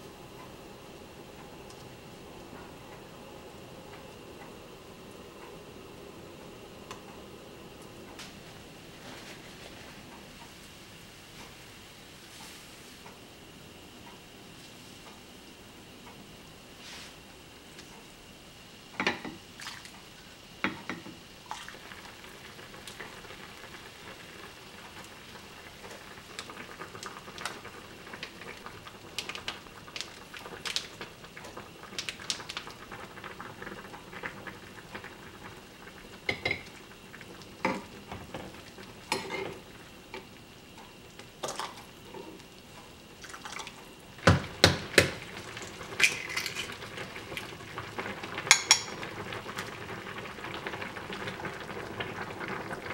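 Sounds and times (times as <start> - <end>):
stew simmering in a pot: 0.0 - 52.9.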